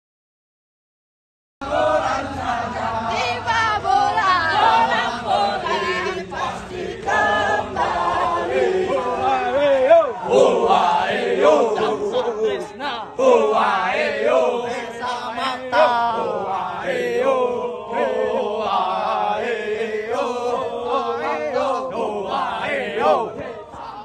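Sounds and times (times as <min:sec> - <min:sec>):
men chanting in unison: 0:01.6 - 0:24.0.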